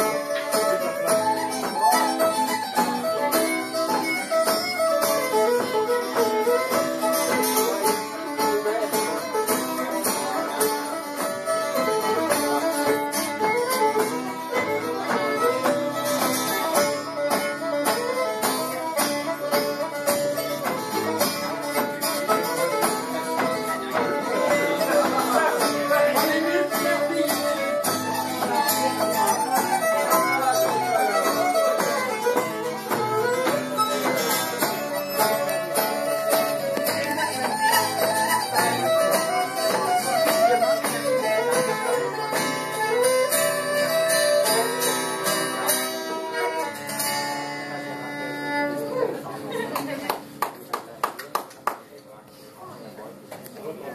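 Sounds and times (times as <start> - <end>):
strummed acoustic guitar: 0.0 - 49.5
fiddle melody: 0.0 - 49.6.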